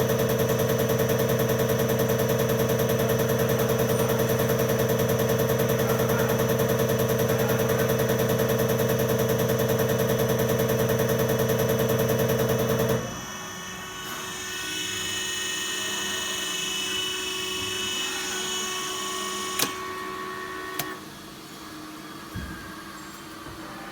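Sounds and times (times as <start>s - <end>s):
test bench machine hum pulsing: 0.0s - 23.9s.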